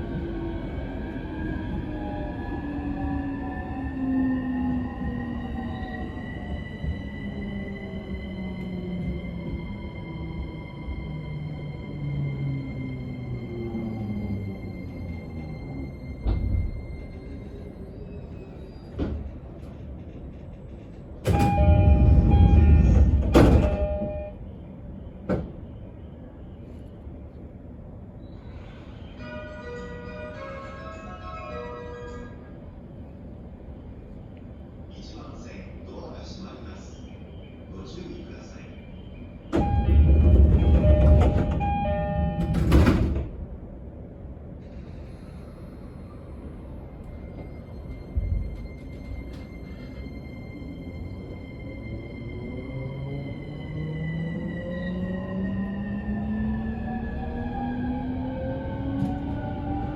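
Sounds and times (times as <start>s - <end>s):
train wheels rumbling on rail: 0.0s - 29.0s, 32.1s - 59.9s.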